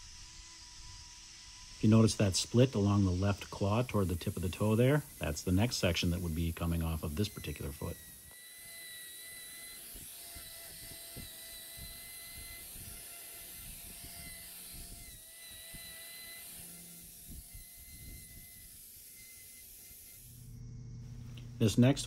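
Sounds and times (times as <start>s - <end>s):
angle grinder whining: 0.0s - 22.0s.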